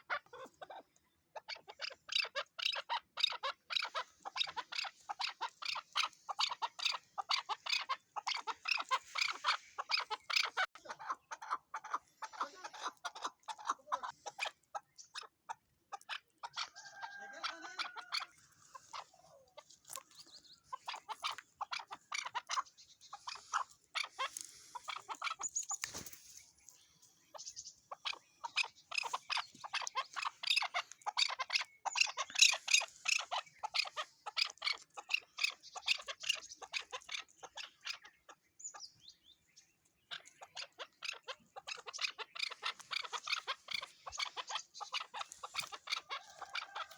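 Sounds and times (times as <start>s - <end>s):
partridge clucking calls: 0.0s - 46.9s.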